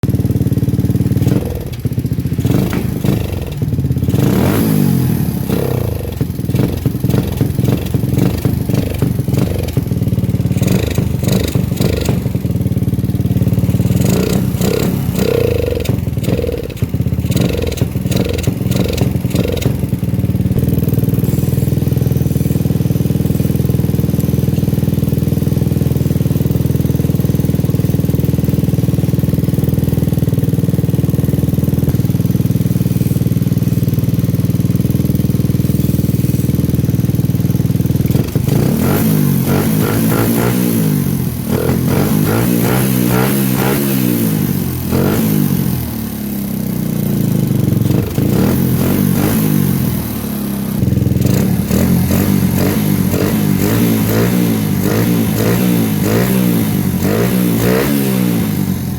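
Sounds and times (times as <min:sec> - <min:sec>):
motorcycle engine revving and idling: 0:00.0 - 0:58.9.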